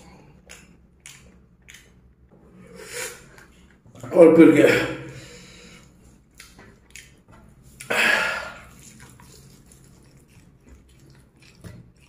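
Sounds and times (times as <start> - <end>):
person chewing food: 0.0 - 4.0, 5.7 - 12.0.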